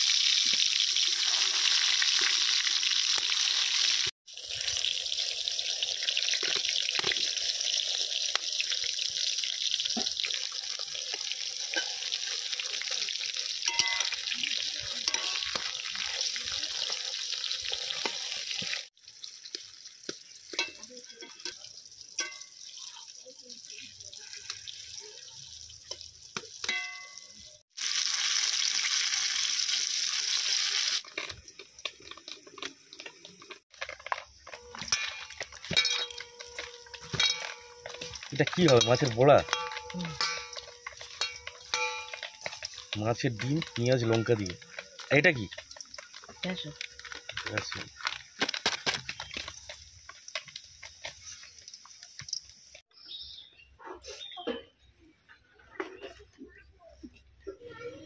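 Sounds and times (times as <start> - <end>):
oil crackling and popping: 0.0 - 53.2
slices sizzling in hot oil: 0.0 - 53.3.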